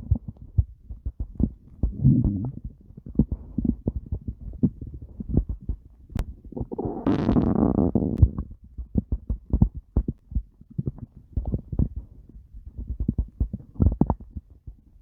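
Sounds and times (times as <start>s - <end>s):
stomach growling and gurgling: 0.0s - 14.9s.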